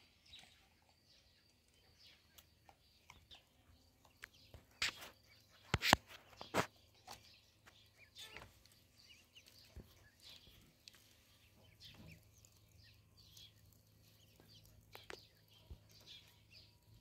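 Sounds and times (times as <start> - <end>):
ducklings peeping: 0.1 - 17.0.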